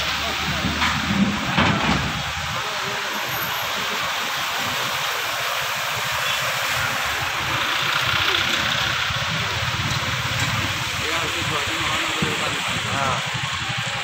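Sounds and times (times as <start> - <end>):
vehicle engines running: 0.0 - 14.0
water splashing around wheels: 0.0 - 14.0.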